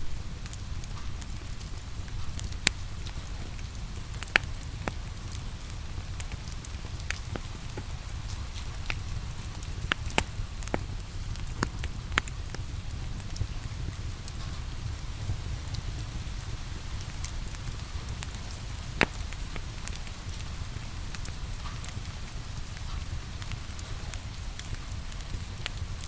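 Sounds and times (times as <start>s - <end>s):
steady rain hiss: 0.0s - 26.0s
wood fire crackling: 0.0s - 26.0s
fire popping: 0.1s - 26.0s.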